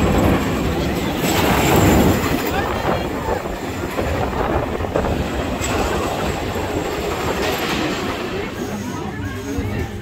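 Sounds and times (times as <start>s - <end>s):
roller coaster wheels rattling on rail: 0.0s - 10.0s.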